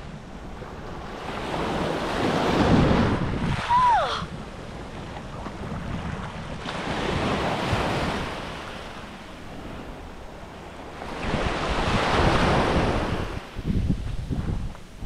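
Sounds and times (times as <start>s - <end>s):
surf breaking on beach: 0.0s - 14.7s
wind rumbling on microphone: 0.0s - 15.0s.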